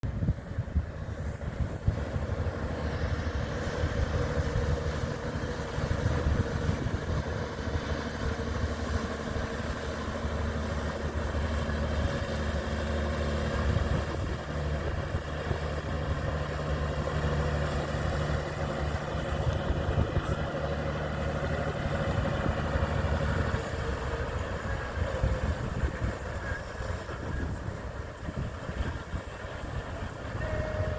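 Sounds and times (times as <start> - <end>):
boat engine running: 0.0 - 30.9.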